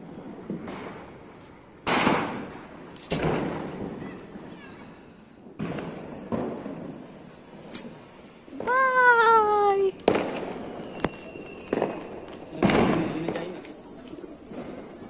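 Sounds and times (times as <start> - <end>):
firecrackers bursting: 0.0 - 15.0.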